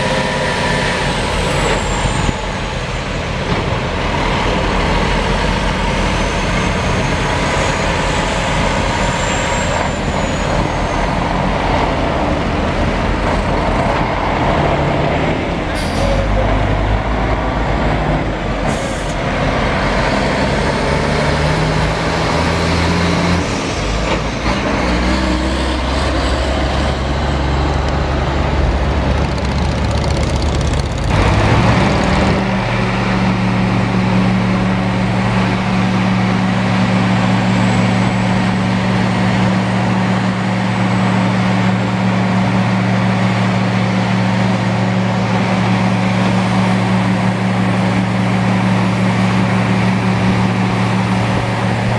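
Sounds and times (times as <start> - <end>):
dump truck unloading asphalt: 0.0 - 51.9
heavy diesel engines running: 0.0 - 51.9.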